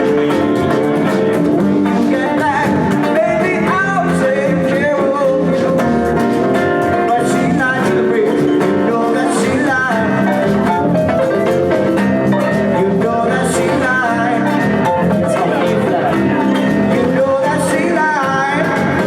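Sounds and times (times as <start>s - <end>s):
live band with guitar and drums: 0.0s - 19.0s
person singing: 0.0s - 19.0s.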